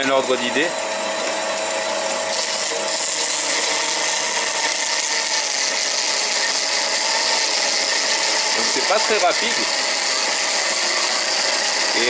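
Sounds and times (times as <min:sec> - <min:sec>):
electric saw cutting steel: 0:00.0 - 0:12.0.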